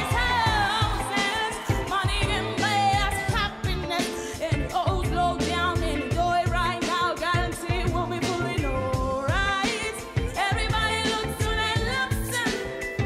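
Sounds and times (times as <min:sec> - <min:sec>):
girl singing pop song: 0:00.0 - 0:13.0
live band playing: 0:00.0 - 0:13.0
steady drum beat: 0:00.0 - 0:13.0.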